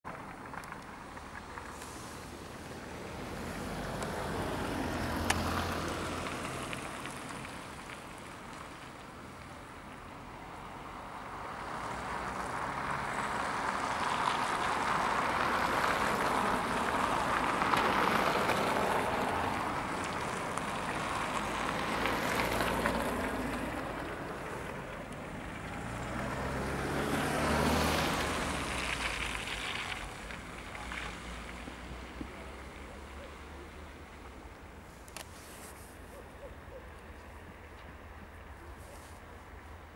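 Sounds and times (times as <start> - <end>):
car engine: 0.0 - 35.3
cars passing on wet road: 0.1 - 39.9.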